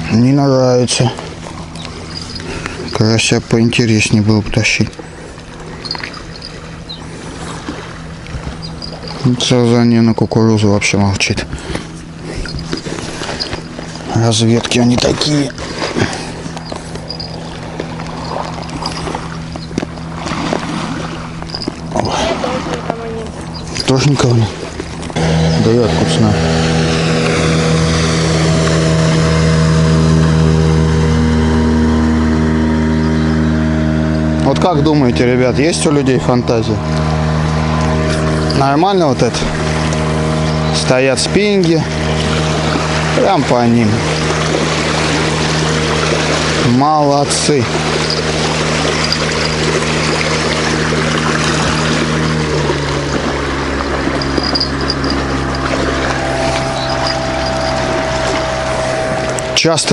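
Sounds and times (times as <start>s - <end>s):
water hissing: 0.0s - 4.4s, 5.0s - 10.0s, 11.5s - 59.7s
outboard motor running: 0.0s - 59.9s.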